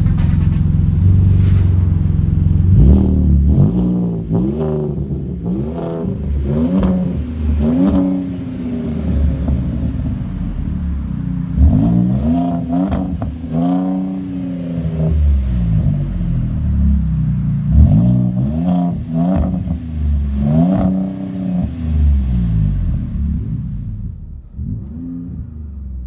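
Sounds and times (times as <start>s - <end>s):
truck engine idling and revving: 0.0s - 26.0s.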